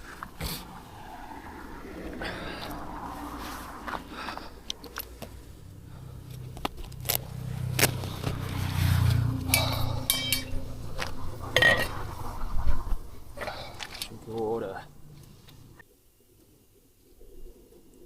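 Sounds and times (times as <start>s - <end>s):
vehicle rumble: 0.0s - 15.8s.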